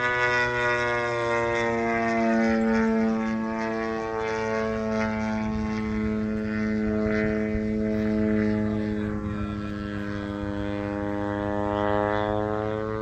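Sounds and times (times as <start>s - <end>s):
model plane motor droning: 0.0s - 13.0s.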